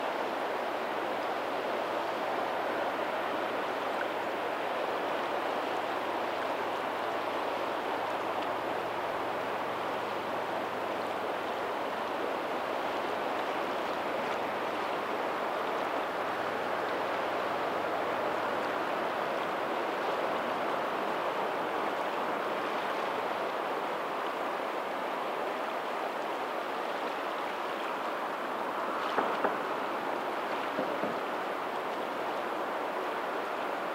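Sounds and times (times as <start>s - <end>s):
distant ocean waves: 0.0s - 33.9s
rushing water: 0.0s - 33.9s.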